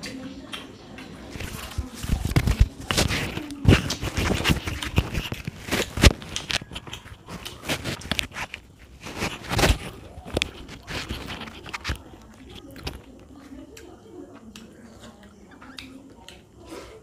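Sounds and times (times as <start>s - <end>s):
mouth chewing: 0.0s - 17.0s
fingers squishing wet rice: 0.1s - 17.0s.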